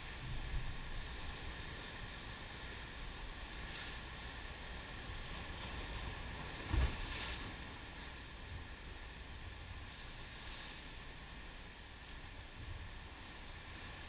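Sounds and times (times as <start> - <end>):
surf washing over rocks: 0.0 - 14.0.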